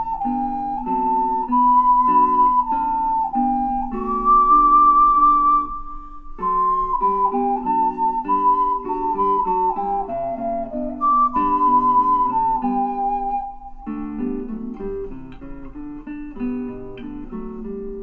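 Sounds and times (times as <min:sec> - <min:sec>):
ocarina melody: 0:00.0 - 0:18.0
plucked acoustic guitar: 0:00.0 - 0:18.0.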